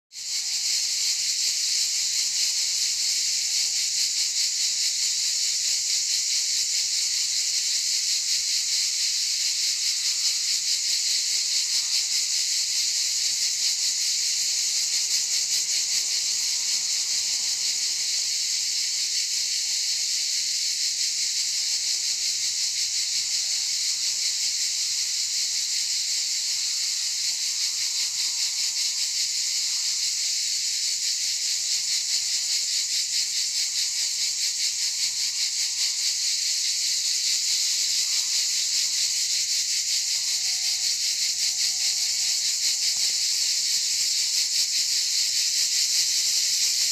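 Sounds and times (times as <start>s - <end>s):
cicadas buzzing: 0.1s - 46.9s.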